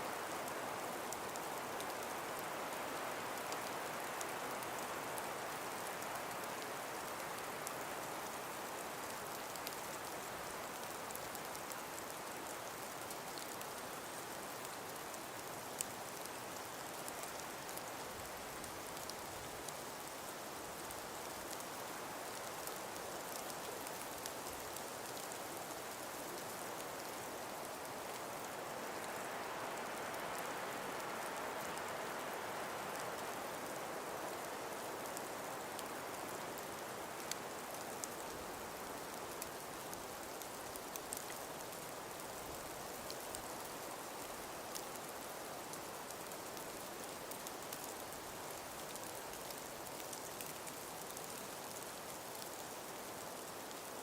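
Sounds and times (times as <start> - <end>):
breeze through trees: 0.0 - 54.0
faint ticks: 9.0 - 54.0.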